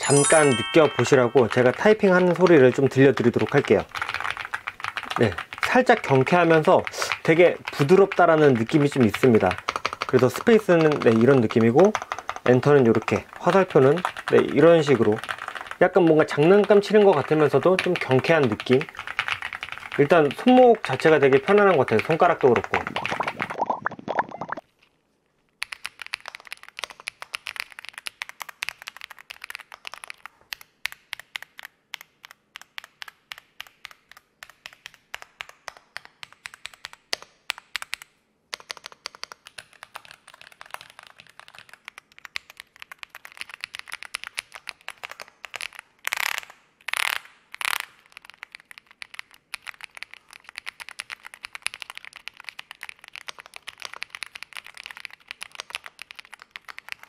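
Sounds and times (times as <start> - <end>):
mechanical keyboard typing: 0.0 - 23.6, 25.6 - 45.8, 47.8 - 57.0.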